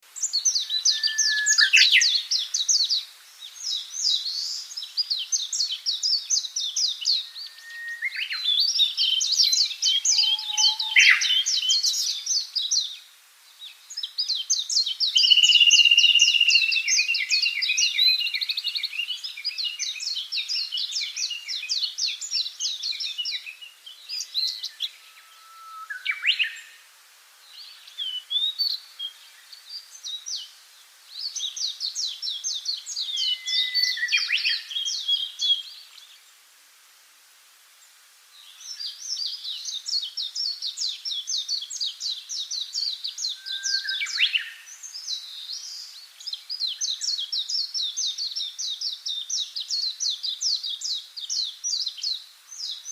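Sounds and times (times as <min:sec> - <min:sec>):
songbirds singing: 0:00.0 - 0:36.5, 0:37.7 - 0:52.9.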